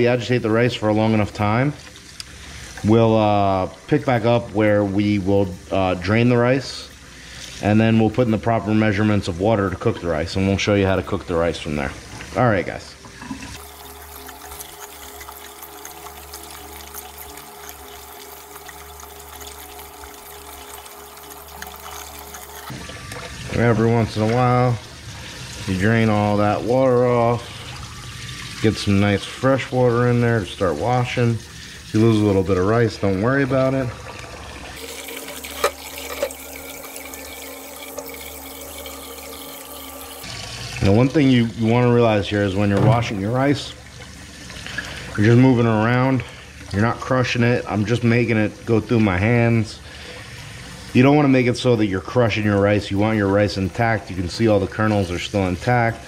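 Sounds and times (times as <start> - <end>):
tap water running: 0.0 - 56.0.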